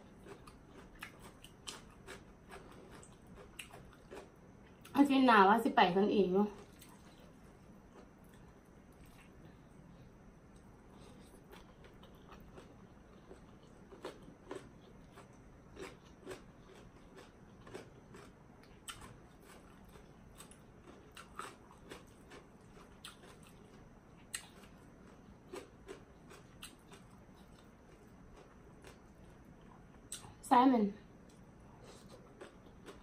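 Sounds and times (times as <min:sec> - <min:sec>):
person chewing crunchy food: 0:00.0 - 0:04.9, 0:06.6 - 0:09.6, 0:10.5 - 0:30.3, 0:31.2 - 0:33.0.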